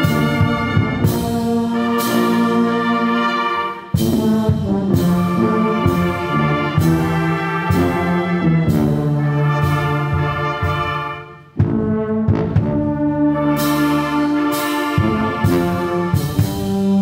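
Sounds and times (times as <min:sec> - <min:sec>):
brass band playing a hymn: 0:00.0 - 0:17.0.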